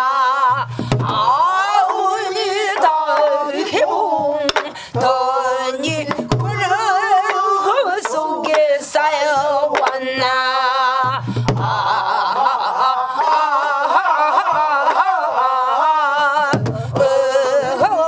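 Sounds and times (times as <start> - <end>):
folk song with vibrato: 0.0 - 18.0.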